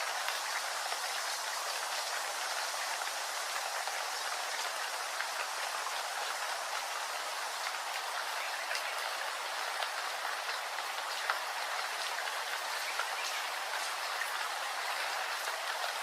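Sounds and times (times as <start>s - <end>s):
raindrops ticking: 0.0s - 16.0s
steady rainfall: 0.0s - 16.0s.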